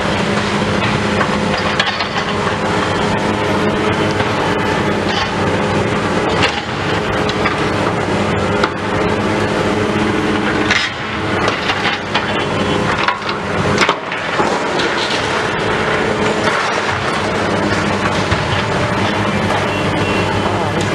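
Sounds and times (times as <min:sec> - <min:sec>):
diesel engine running under load: 0:00.0 - 0:20.9.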